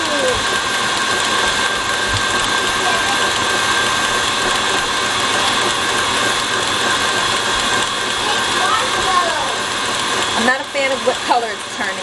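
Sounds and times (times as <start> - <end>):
stand mixer whirring: 0.0 - 12.0.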